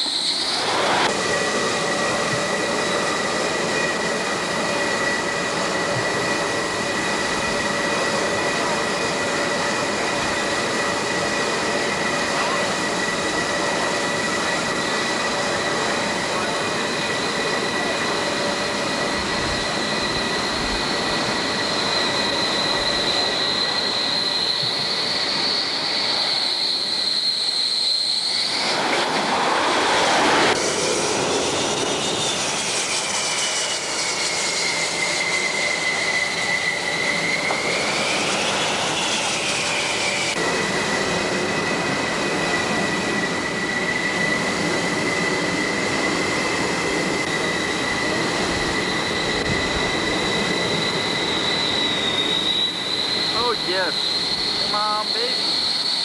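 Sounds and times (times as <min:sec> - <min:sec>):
jet engine turbine whine: 0:00.0 - 0:56.0
rush of jet noise: 0:00.0 - 0:56.0.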